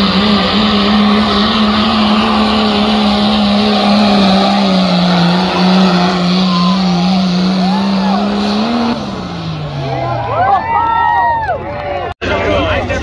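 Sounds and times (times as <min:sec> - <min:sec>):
diesel engine under heavy load: 0:00.0 - 0:10.7.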